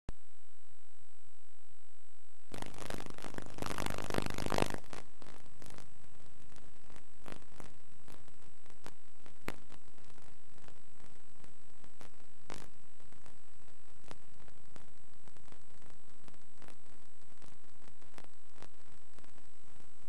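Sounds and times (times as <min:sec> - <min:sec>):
crackling static: 0:00.0 - 0:20.0
tape hiss: 0:00.0 - 0:20.0
faint high whine: 0:00.1 - 0:20.0
clicks and crackles: 0:02.5 - 0:20.0.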